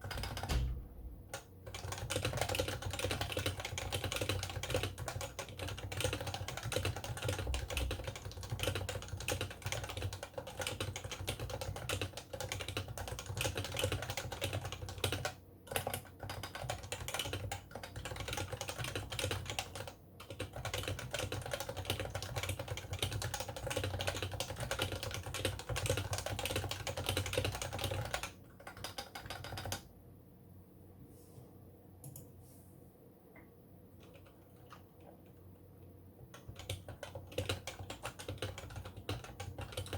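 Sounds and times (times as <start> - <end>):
keyboard typing: 0.0 - 29.8, 34.0 - 35.4, 36.2 - 39.9.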